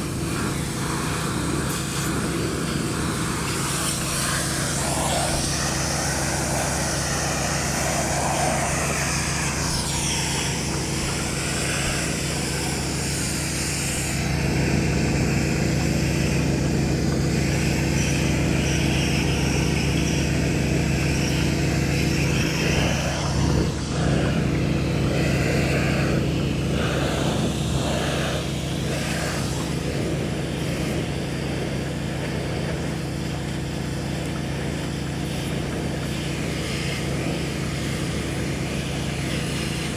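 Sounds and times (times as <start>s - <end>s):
pressure washer engine drone: 0.0s - 39.9s
water spray hissing: 0.0s - 39.9s.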